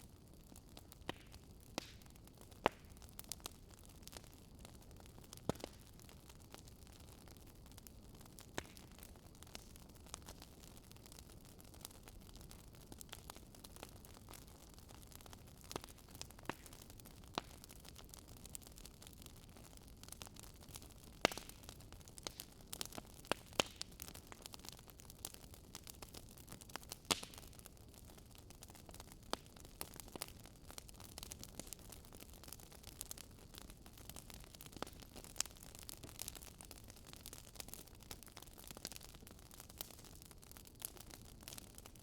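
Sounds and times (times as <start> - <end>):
fire crackling: 0.0 - 42.0.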